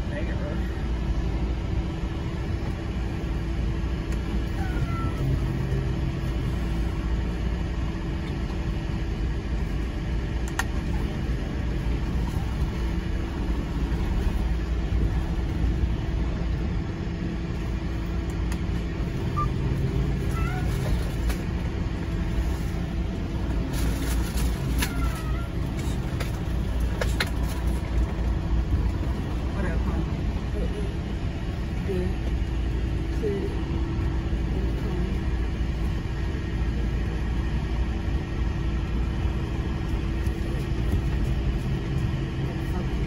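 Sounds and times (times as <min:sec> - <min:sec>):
steady hum: 0:00.0 - 0:43.0
truck engine rumbling: 0:00.0 - 0:43.0.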